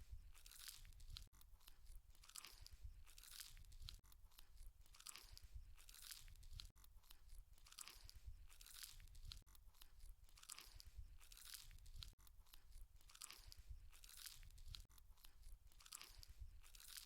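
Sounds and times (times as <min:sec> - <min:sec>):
person crunching and chewing food: 0:00.0 - 0:17.0.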